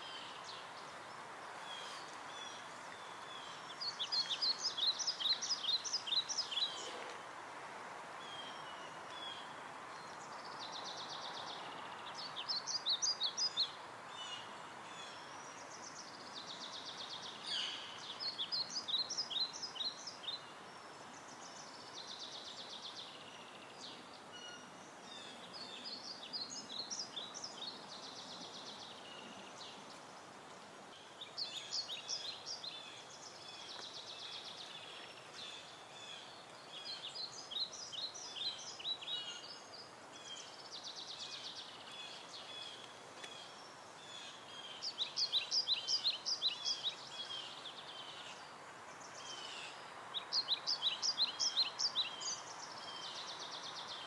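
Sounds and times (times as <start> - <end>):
background hiss: 0.0 - 54.0
songbird singing: 0.0 - 54.0.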